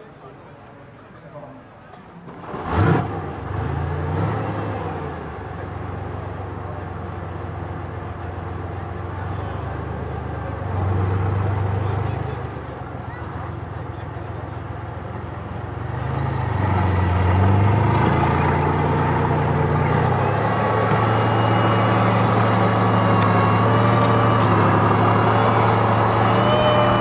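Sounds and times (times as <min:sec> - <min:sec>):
diesel engine revving: 0:02.3 - 0:27.0.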